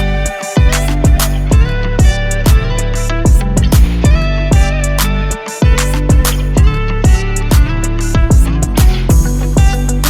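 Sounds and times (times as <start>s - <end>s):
song with guitar and drums: 0.0s - 10.0s.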